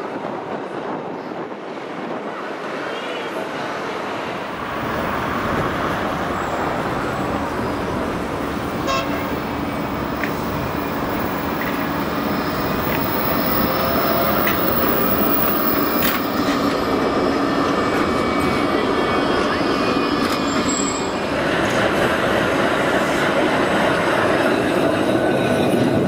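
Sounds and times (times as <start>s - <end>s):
tram wheels on rails: 0.0s - 26.0s.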